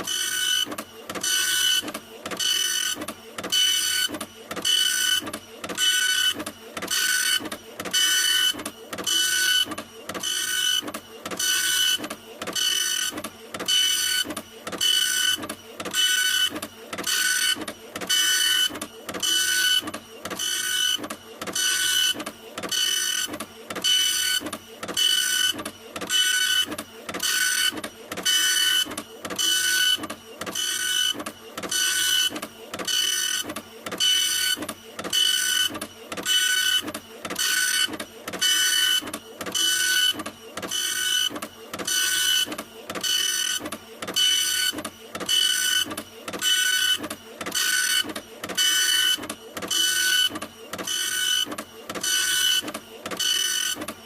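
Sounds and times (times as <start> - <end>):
printer hiss and whine: 0.0 - 54.0.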